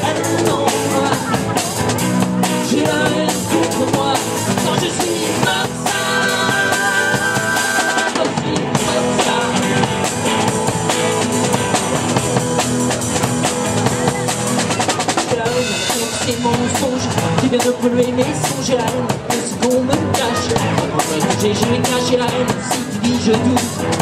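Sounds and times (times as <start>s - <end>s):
drum kit beat: 0.0s - 24.0s
electric guitar: 0.0s - 24.0s.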